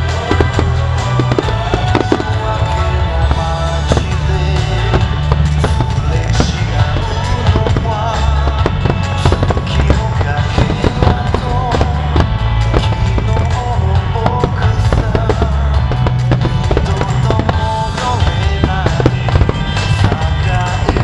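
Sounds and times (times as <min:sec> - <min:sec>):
firework shells bursting: 0:00.0 - 0:21.0
loud music with heavy bass: 0:00.0 - 0:21.0.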